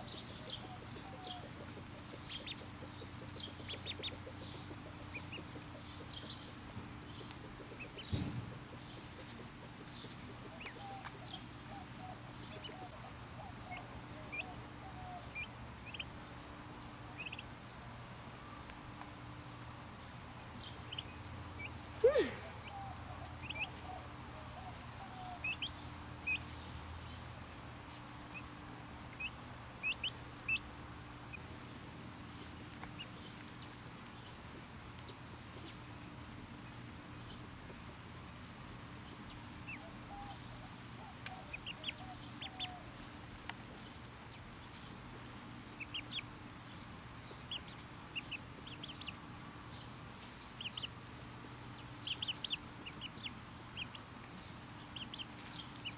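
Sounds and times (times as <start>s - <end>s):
ducklings peeping: 0.0s - 55.9s.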